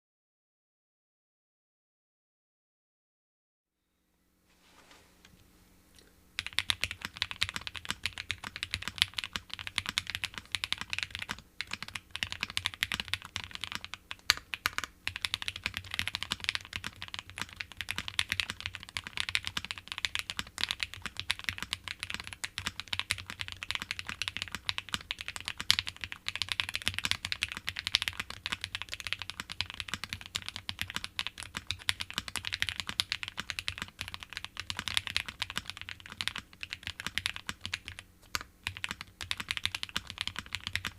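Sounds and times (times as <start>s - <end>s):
fast mechanical keyboard typing: 6.4s - 40.9s.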